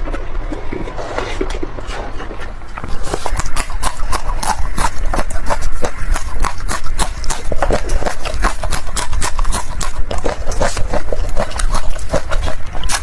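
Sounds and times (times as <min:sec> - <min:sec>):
low steady hum: 0:00.0 - 0:13.0
wet chewing: 0:00.0 - 0:13.0.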